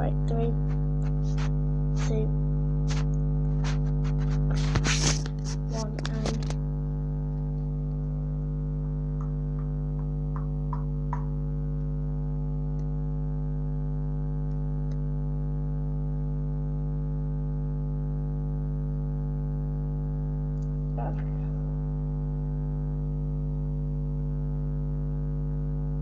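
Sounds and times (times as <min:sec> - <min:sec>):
steady buzzing hum: 0:00.0 - 0:26.0.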